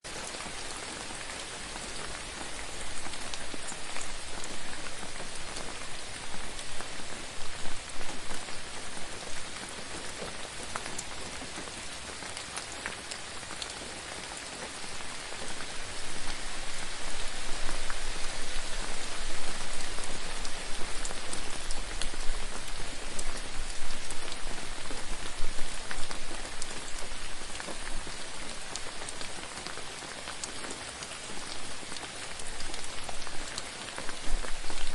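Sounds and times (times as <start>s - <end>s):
gentle rain falling: 0.0s - 34.9s
raindrops ticking: 0.1s - 34.9s.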